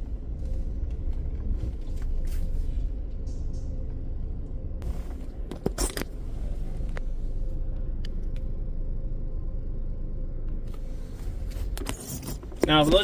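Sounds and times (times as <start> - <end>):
car idling: 0.0 - 13.0.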